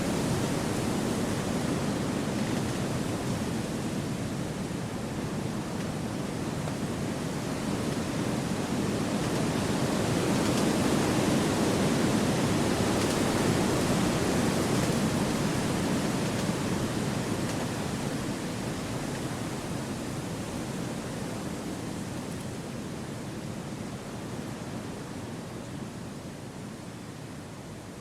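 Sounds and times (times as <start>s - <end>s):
wind through trees: 0.0s - 28.0s.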